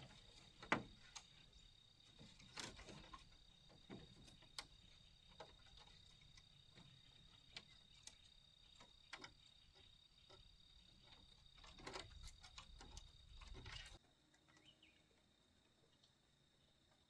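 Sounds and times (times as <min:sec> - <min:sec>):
faint clicks and light knocks: 0:00.0 - 0:14.7.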